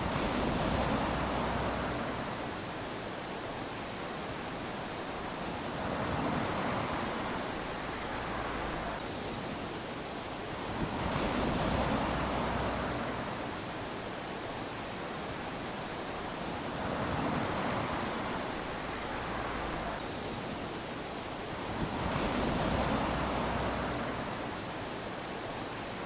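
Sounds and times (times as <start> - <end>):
waves washing onto sandy shore: 0.0 - 26.0.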